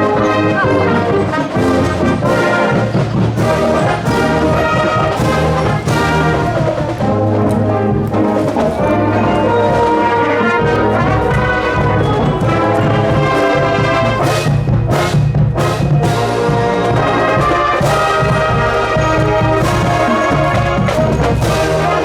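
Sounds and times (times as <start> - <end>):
marching band playing: 0.0 - 22.0
sharp percussion strokes: 1.3 - 22.0.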